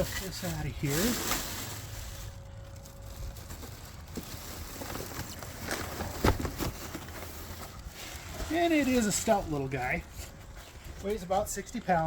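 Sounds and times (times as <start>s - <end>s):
packing scraping and rustling: 0.0s - 12.0s.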